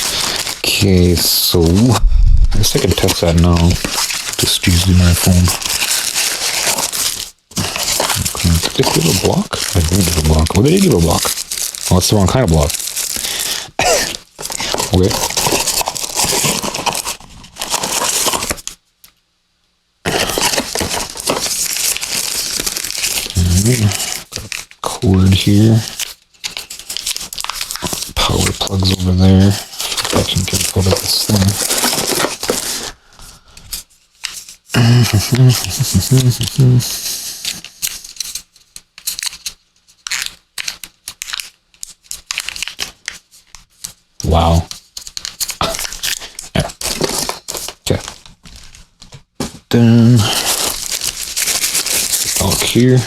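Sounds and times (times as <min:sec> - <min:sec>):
plastic packaging crinkling: 0:00.0 - 0:18.8, 0:20.1 - 0:36.7, 0:37.4 - 0:53.0.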